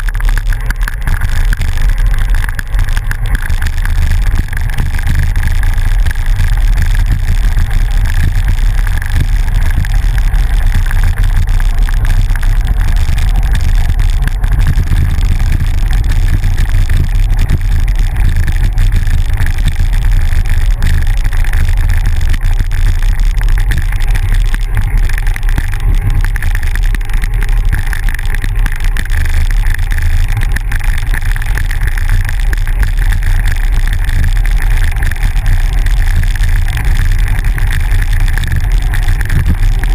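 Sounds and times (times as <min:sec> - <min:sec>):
bicycle tyres on dirt road: 0:00.0 - 0:39.9
wind rumble on microphone: 0:00.0 - 0:39.9.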